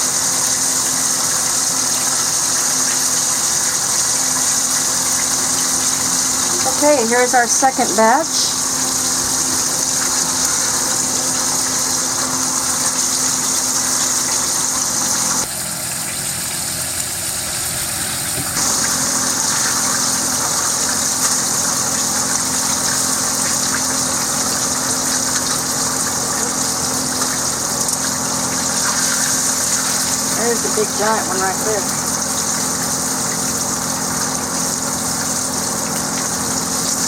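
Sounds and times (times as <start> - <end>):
chicken sizzling in hot oil: 0.0 - 37.0.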